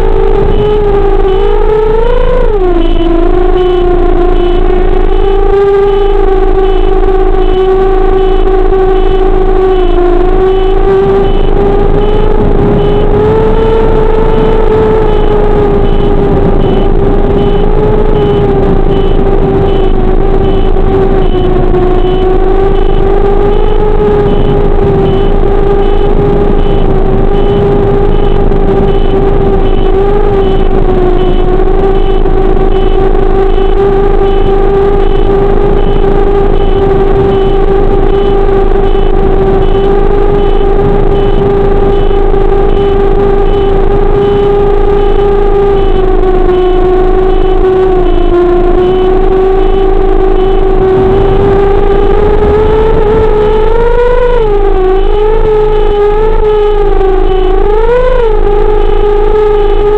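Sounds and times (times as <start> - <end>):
electric motor and propeller whine: 0.0 - 59.9
faint high pulsing tone: 0.0 - 59.9.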